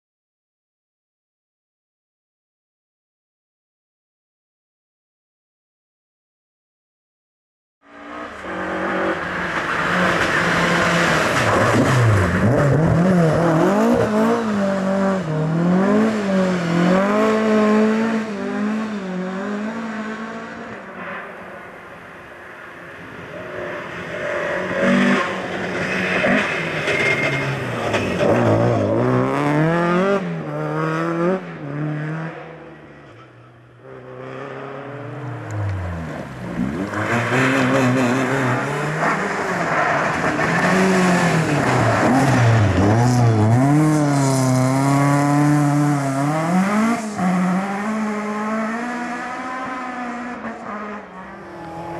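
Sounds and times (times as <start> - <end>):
rally car engines revving: 7.9 - 22.0, 22.6 - 51.9.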